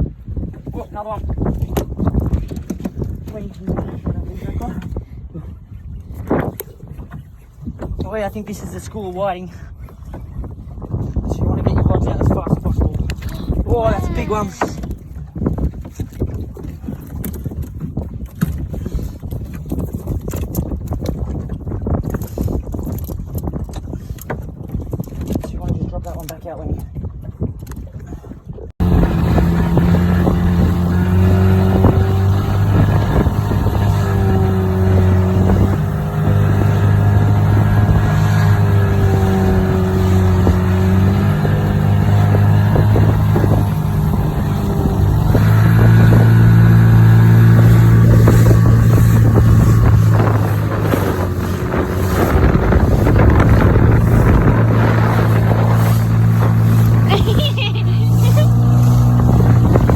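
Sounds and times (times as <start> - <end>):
small outboard motor running: 0.0 - 25.4, 26.9 - 59.9.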